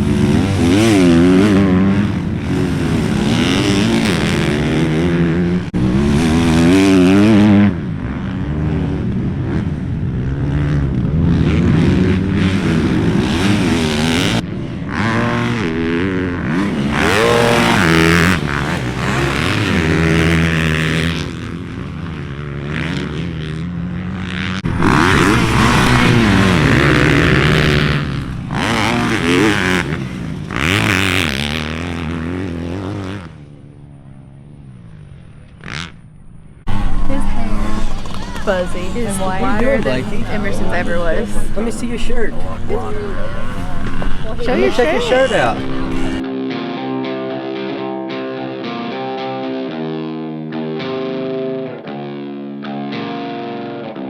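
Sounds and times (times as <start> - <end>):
dirt bike engine revving: 0.0 - 46.3.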